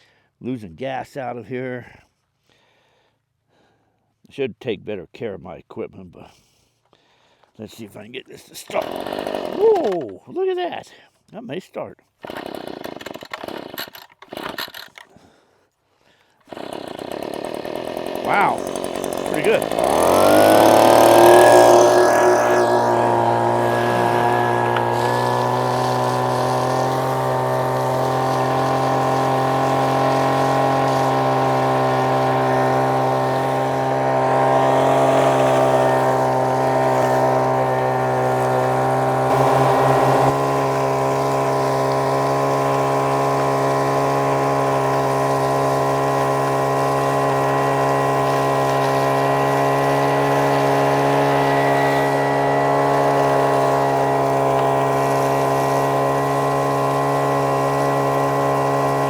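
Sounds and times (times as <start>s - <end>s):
small gas engine running: 8.6s - 10.1s, 12.2s - 15.4s, 16.4s - 59.0s.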